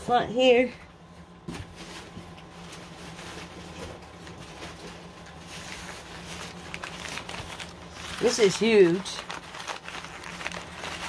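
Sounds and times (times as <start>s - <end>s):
steady low hum: 0.0s - 11.0s
paper rustling: 1.8s - 11.0s.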